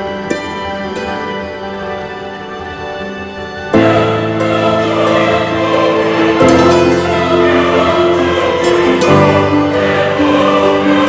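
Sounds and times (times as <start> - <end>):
choir singing held chords: 0.0 - 11.0
instrumental accompaniment: 0.0 - 11.0.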